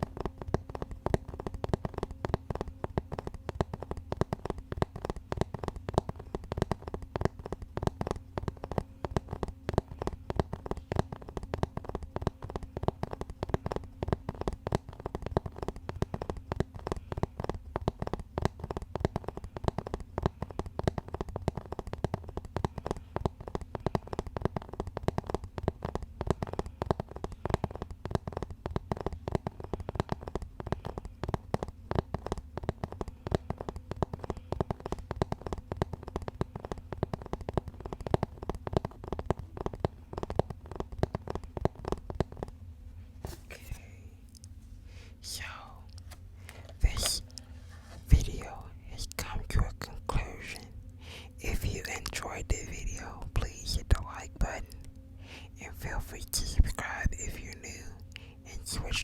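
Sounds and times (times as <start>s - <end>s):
rapid tapping on a surface: 0.0s - 44.5s, 45.4s - 57.0s
faint steady hum: 0.0s - 59.0s.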